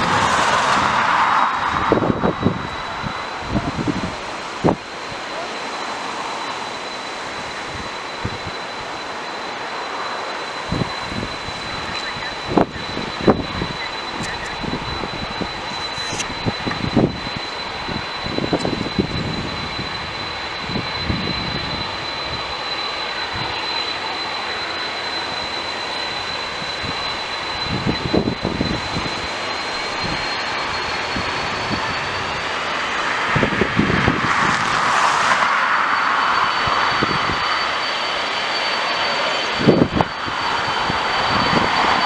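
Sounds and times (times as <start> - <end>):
jet engines whining and roaring: 0.0 - 42.0.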